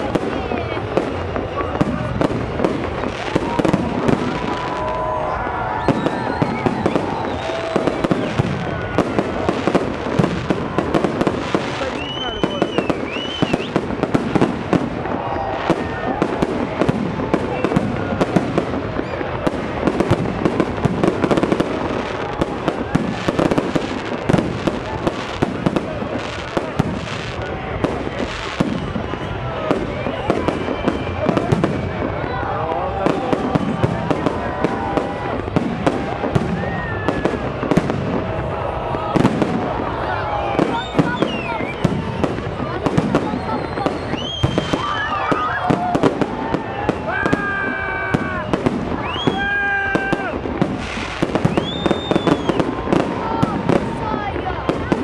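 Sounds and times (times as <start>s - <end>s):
continuous din: 0.0s - 55.0s
fireworks bursting: 0.0s - 55.0s.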